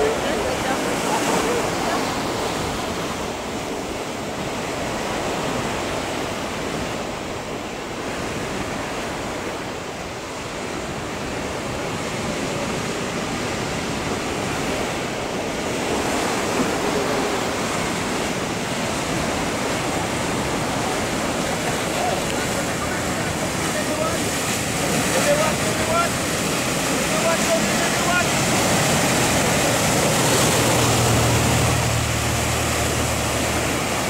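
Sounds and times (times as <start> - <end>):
waves breaking and surf: 0.0 - 34.0.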